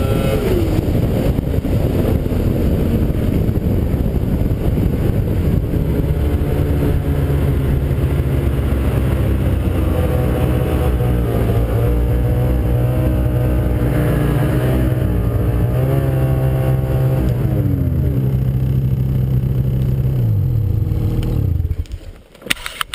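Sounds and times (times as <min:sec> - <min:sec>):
snowmobile engine running hard: 0:00.0 - 0:21.9
wind rumble on microphone: 0:00.0 - 0:22.2.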